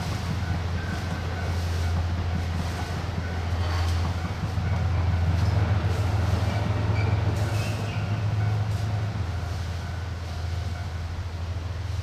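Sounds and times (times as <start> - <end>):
train engine humming: 0.0 - 12.0.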